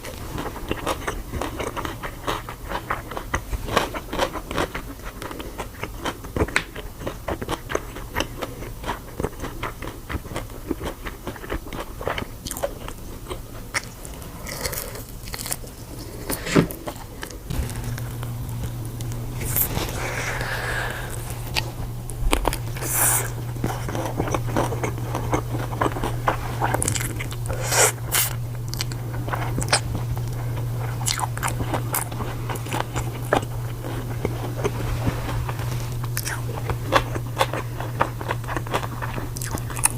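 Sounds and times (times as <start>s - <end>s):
chewing crunchy food: 0.0s - 39.9s
low steady hum: 0.0s - 39.9s.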